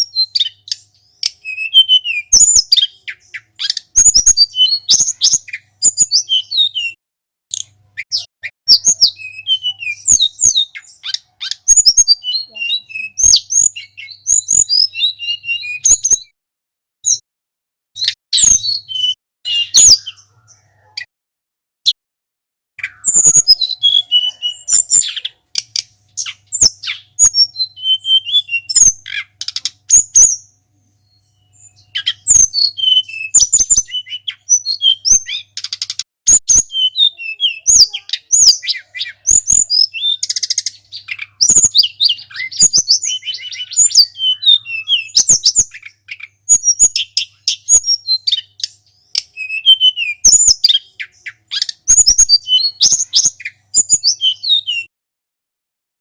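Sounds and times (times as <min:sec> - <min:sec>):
flycatcher chirps and whistles: 0:00.0 - 0:16.3, 0:22.8 - 0:30.5, 0:31.5 - 0:54.9.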